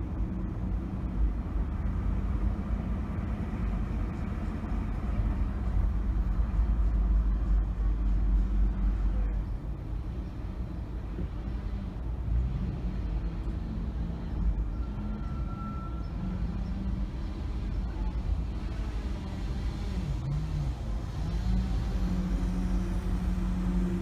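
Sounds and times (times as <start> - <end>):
car engine hum: 0.0 - 24.0
road rumble inside car: 0.0 - 24.0.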